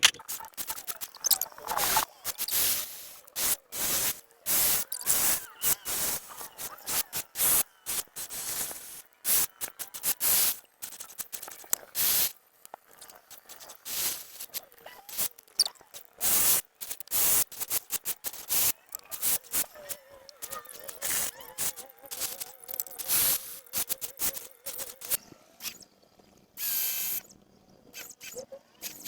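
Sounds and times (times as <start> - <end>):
spray hissing in bursts: 0.3 - 12.4, 13.4 - 15.4, 16.2 - 25.2, 26.6 - 27.2.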